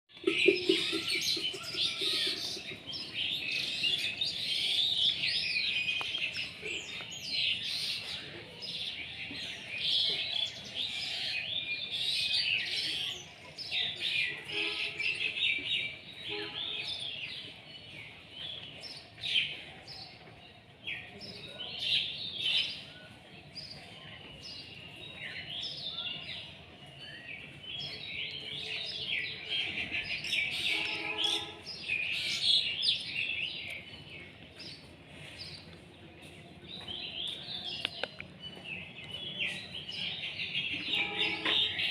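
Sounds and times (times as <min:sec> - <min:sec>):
songbirds chirping: 0:00.1 - 0:41.9.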